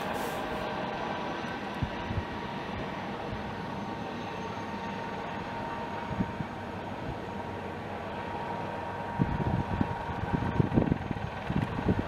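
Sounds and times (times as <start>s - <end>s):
city traffic crossing bridge: 0.0s - 11.5s.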